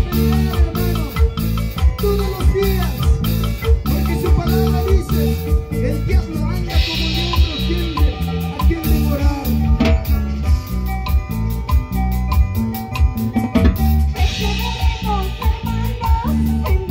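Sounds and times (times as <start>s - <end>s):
drum kit beat: 0.0s - 16.9s
electric bass: 0.0s - 16.9s.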